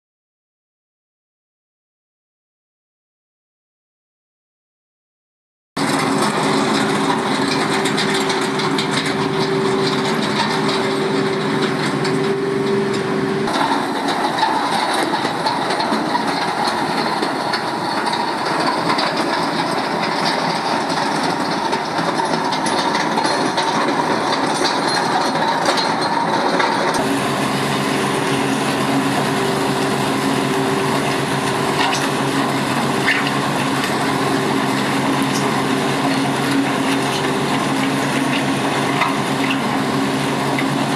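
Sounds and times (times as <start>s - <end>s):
grading machine engine running: 5.8s - 40.9s
rattling and crunching: 5.8s - 40.9s.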